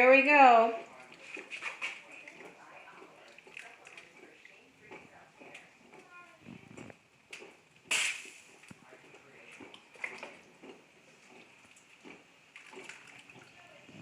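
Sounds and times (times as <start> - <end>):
coffee percolator bubbling: 0.8 - 14.0.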